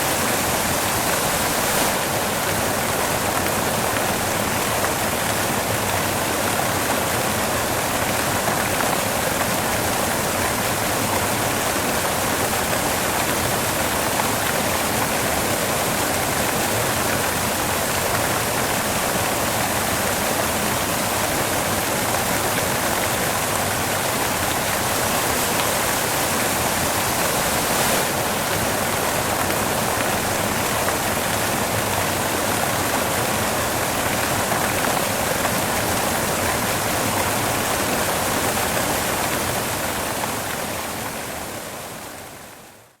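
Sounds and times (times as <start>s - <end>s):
white noise hiss: 0.0s - 43.0s.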